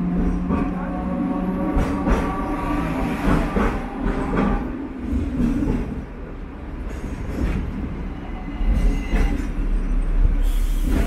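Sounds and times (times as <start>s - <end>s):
tram rumbling on tracks: 0.0s - 11.0s.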